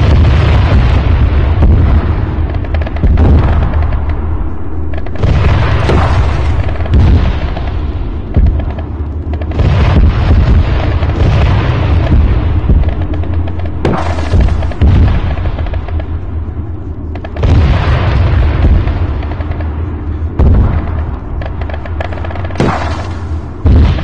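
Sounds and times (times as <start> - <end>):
explosions: 0.0 - 24.0
gunfire: 0.0 - 24.0
heavy low rumble: 0.0 - 24.0.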